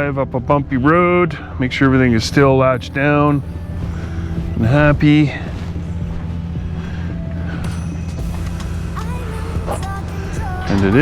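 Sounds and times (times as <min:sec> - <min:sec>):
faint music: 0:00.0 - 0:11.0
vehicle engine idling: 0:00.0 - 0:11.0.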